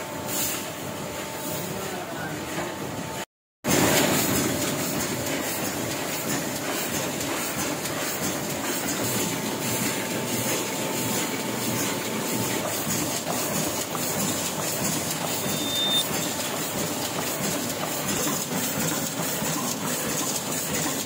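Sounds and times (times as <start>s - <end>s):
printing press clattering: 3.7s - 21.0s.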